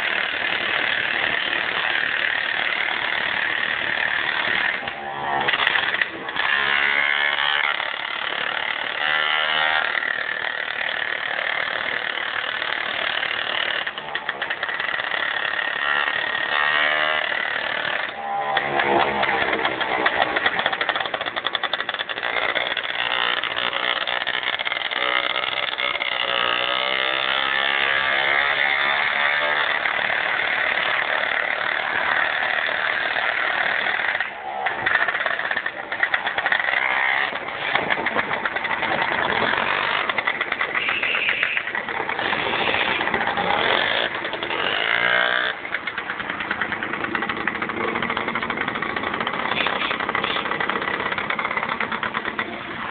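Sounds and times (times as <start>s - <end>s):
moped engine revving: 0.0s - 52.9s.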